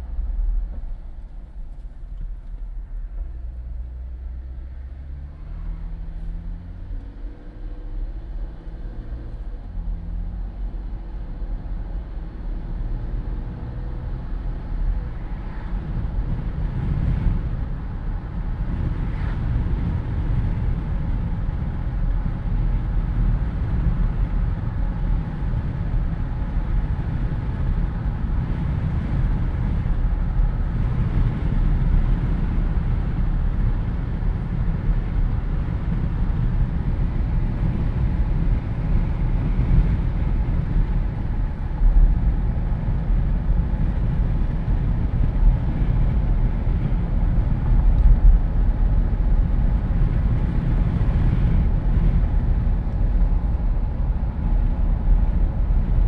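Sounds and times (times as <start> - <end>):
road and engine rumble: 0.0 - 56.0
wind rushing through car cabin: 0.0 - 56.0.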